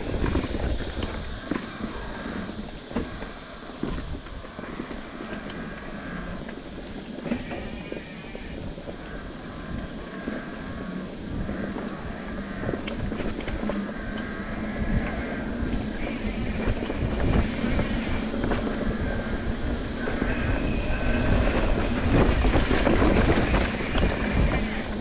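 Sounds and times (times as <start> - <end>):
bike tyre noise and rattling: 0.0 - 25.0
wind on microphone: 0.0 - 25.0.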